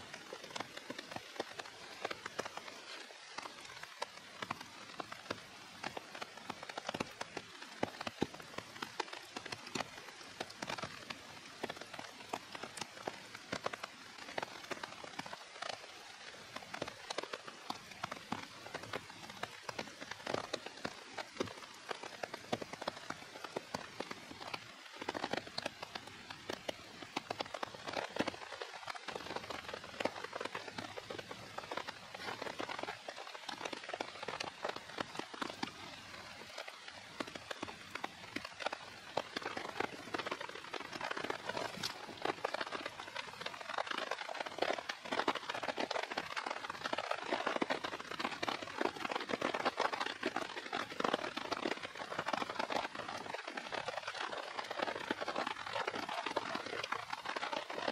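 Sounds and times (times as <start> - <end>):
rain ticking on a tarp: 0.0 - 57.9.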